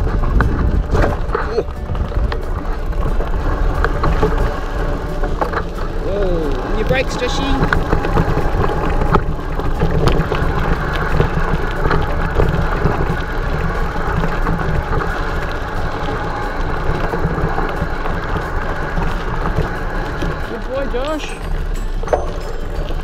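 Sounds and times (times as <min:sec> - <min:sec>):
wind buffeting microphone: 0:00.0 - 0:22.0
bike tyres rumbling on gravel: 0:00.0 - 0:23.0.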